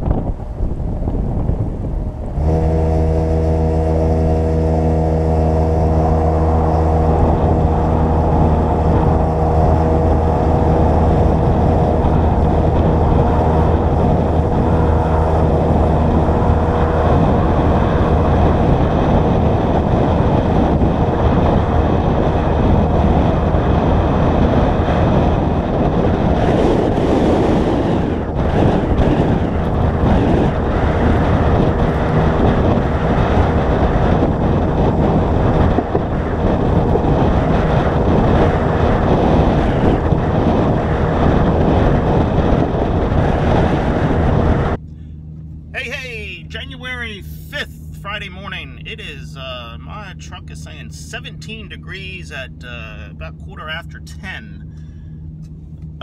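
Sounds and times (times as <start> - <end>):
pickup truck engine running: 0.0 - 56.0
steady rushing noise: 0.0 - 56.0
wind noise on microphone: 0.0 - 56.0.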